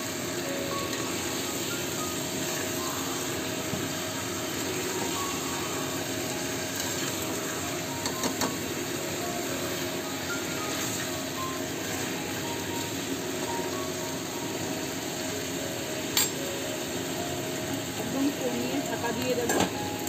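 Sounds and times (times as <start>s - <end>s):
chicken sizzling in pan: 0.0s - 20.0s.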